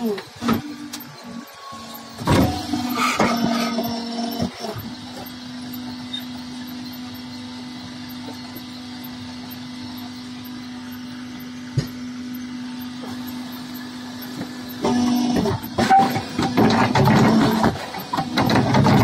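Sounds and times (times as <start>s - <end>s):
motor humming steadily: 0.0s - 19.0s.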